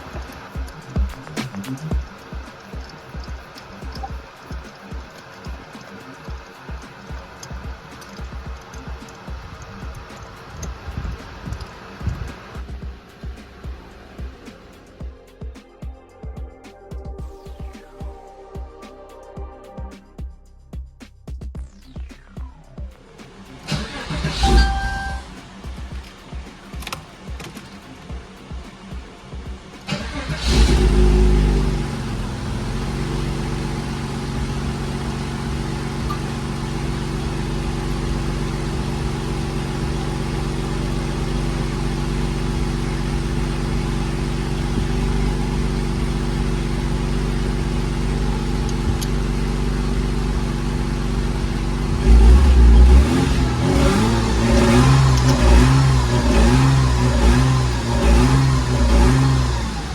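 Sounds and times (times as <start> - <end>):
car engine revving: 0.0 - 15.4, 21.8 - 59.9
car engine starting and idling: 0.0 - 15.6, 21.7 - 59.9.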